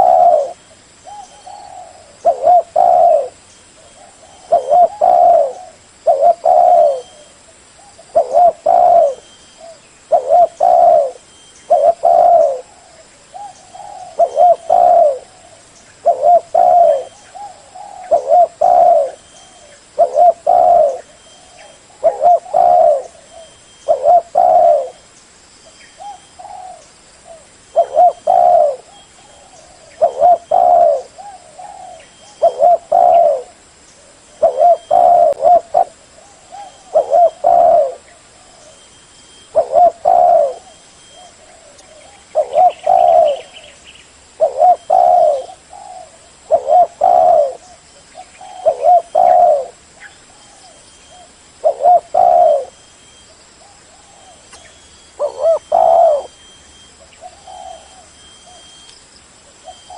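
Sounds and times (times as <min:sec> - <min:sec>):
dove cooing: 0:00.0 - 0:25.0, 0:26.0 - 0:58.8, 0:59.5 - 0:59.9.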